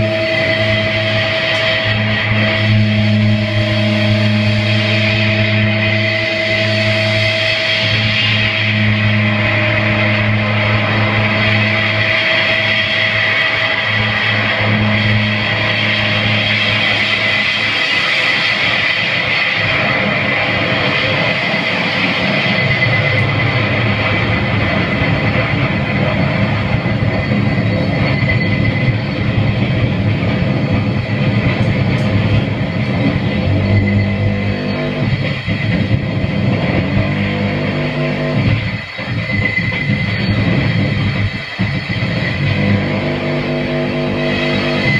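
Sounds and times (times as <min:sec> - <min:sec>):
buzzing low drone: 0:00.0 - 0:44.9
harsh distorted noise music: 0:00.0 - 0:44.9.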